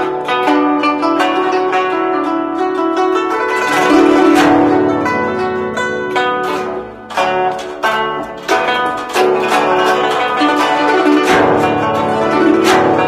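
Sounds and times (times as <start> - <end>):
plucked zither strings: 0.0 - 13.0.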